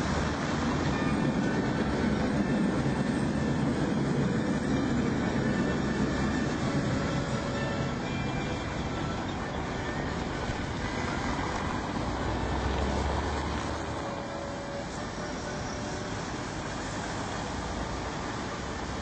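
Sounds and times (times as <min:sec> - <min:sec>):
street traffic rumble: 0:00.0 - 0:19.0
tram rumbling: 0:00.0 - 0:19.0.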